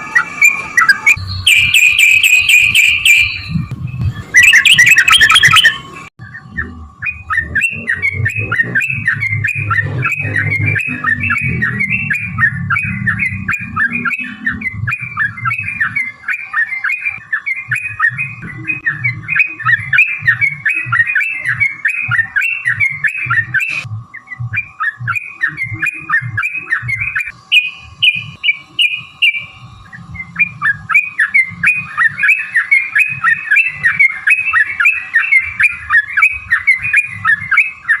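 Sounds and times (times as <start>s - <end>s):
bulbul chattering song: 0.0s - 38.0s.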